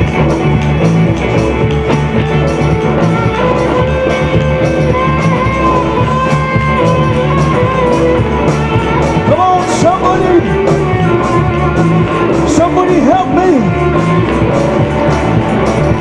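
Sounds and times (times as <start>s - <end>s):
long held melody line: 0.0s - 16.0s
upbeat gospel music: 0.0s - 16.0s.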